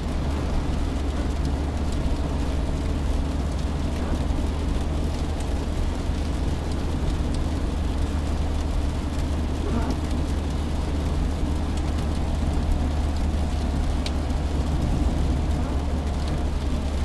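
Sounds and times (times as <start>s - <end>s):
engine and road rumble: 0.0s - 17.0s
rain and wet tyres hissing: 0.0s - 17.0s.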